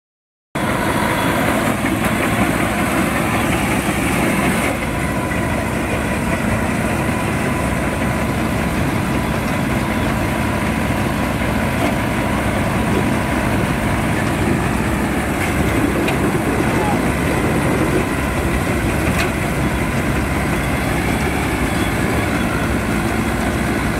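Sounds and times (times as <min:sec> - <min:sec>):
threshing machinery whine: 0:00.6 - 0:23.9
tractor diesel engine running: 0:00.6 - 0:23.9.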